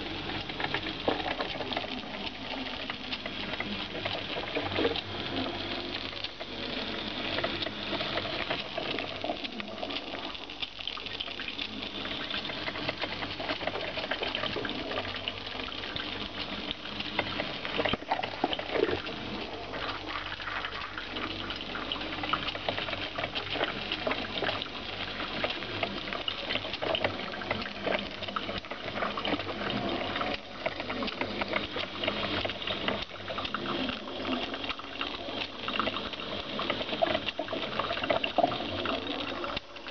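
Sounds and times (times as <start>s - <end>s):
coffee maker gurgling and sputtering: 0.0s - 39.9s.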